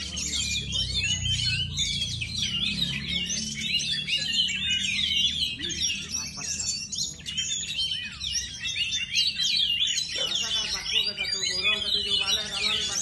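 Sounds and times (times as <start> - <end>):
bird singing chirps and whistles: 0.0 - 13.0.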